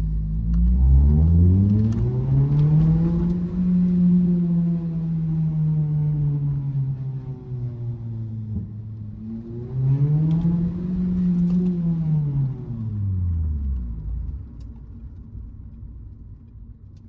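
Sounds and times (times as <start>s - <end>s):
car engine accelerating: 0.0s - 15.6s.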